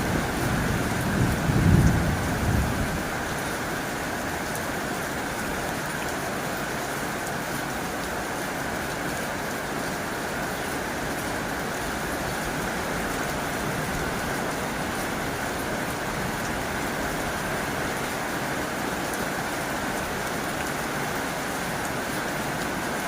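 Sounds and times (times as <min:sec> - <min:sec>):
heavy rain on a tin roof: 0:00.0 - 0:23.0.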